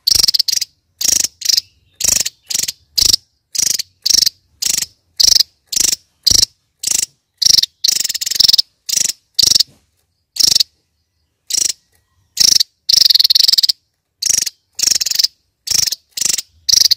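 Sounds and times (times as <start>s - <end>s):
bird singing fast trilled bursts: 0.0s - 16.9s.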